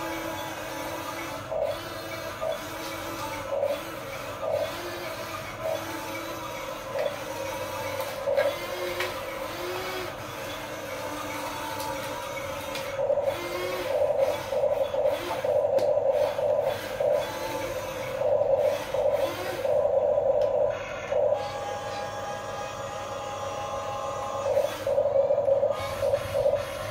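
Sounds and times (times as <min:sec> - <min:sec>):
small electric motors whirring: 0:00.0 - 0:20.0, 0:20.7 - 0:26.9.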